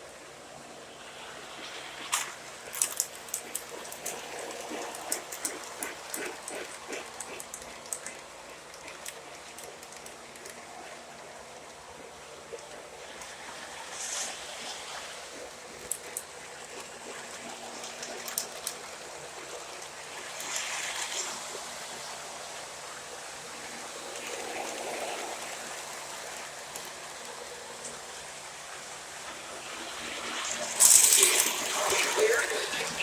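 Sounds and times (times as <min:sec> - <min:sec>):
model train rolling on track: 0:00.0 - 0:33.0.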